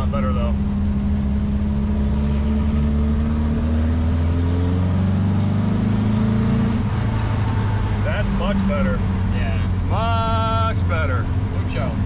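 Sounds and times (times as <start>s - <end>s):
car engine pulling: 0.0s - 12.0s.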